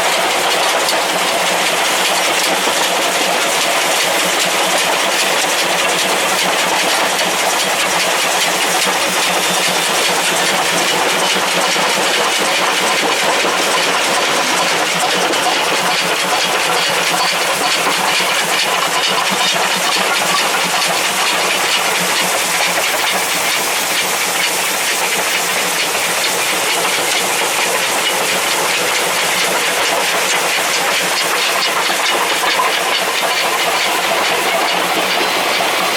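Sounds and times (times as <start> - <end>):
hiss and rush of steam: 0.0 - 35.9
steam locomotive running: 0.0 - 35.9.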